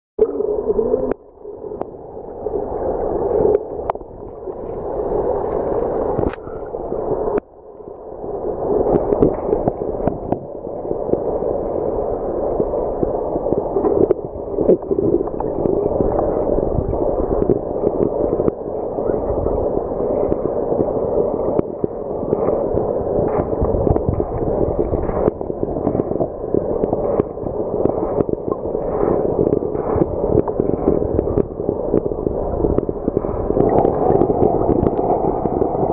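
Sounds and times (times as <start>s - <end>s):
muffled underwater water rushing: 0.2s - 35.9s.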